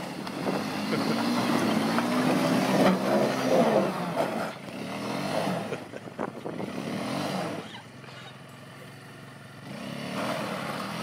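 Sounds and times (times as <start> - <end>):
quad bike engine revving: 0.0 - 11.0.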